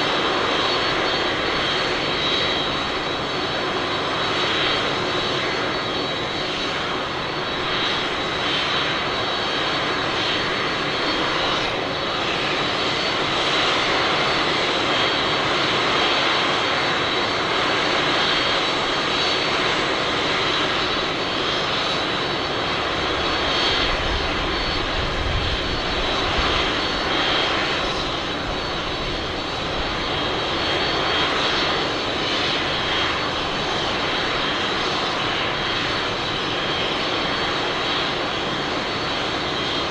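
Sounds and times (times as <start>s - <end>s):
high jet whine: 0.0s - 39.9s
jet engines roaring: 0.0s - 39.9s.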